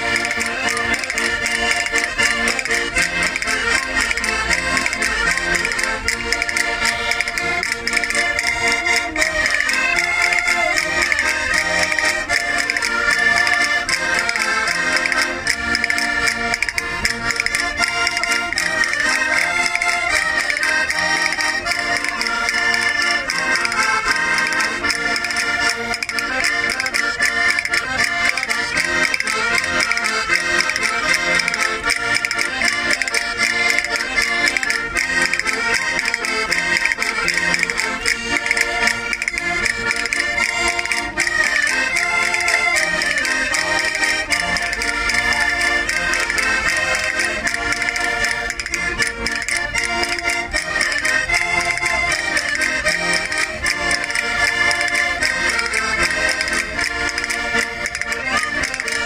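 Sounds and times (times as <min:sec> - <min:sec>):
concertinas playing together: 0:00.0 - 0:59.0.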